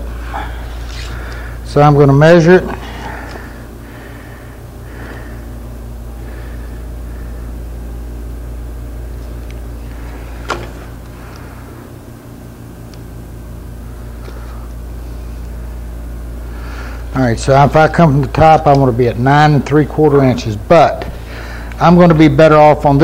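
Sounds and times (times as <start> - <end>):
workshop machine humming: 0.0 - 23.0.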